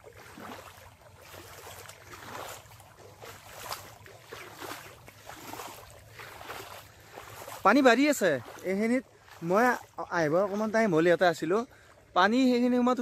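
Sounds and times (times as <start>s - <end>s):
sloshing splashes of wading: 0.0s - 12.6s.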